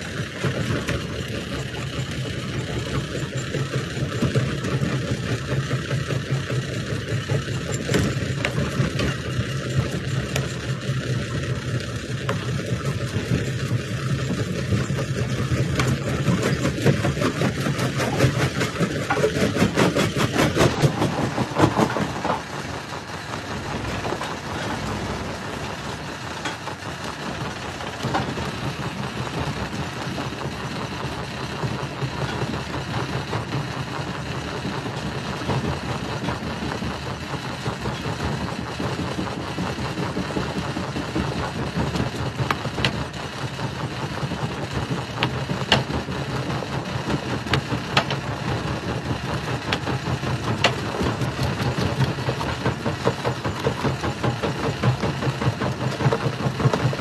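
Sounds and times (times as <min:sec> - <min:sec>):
rock crusher running: 0:00.0 - 0:57.0.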